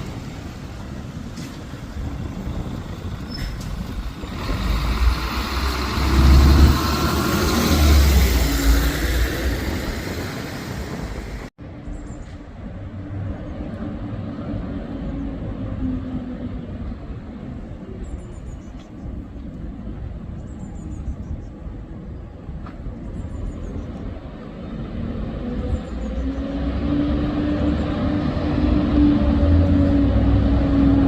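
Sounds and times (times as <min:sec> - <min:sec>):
bus engine drone: 0:00.0 - 0:31.0
road rumble: 0:00.0 - 0:31.0.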